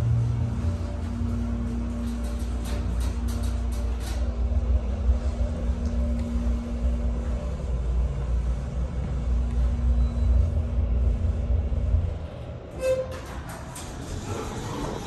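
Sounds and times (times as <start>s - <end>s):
elevator car hum and rumble: 0.0s - 15.0s.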